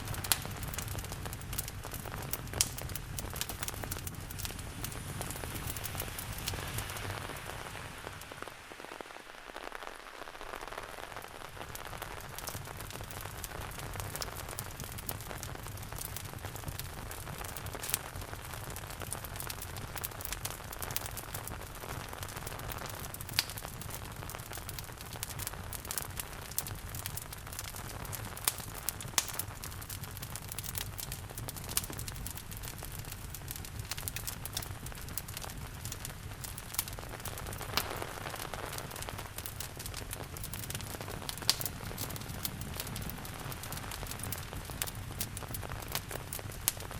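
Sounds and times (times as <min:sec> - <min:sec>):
fire sharp pops: 0:00.0 - 0:46.9
steady rain: 0:00.0 - 0:46.9
wood fire crackling: 0:00.0 - 0:46.9.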